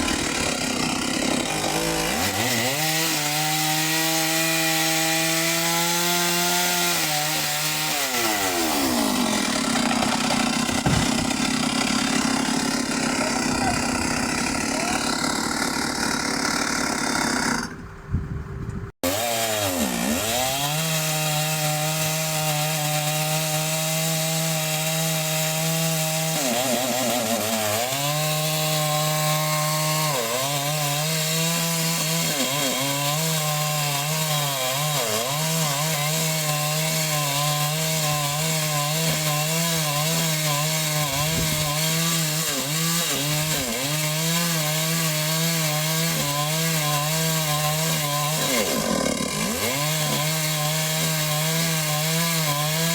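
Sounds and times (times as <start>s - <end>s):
chainsaw running at high revs: 0.0s - 17.8s, 19.0s - 52.9s.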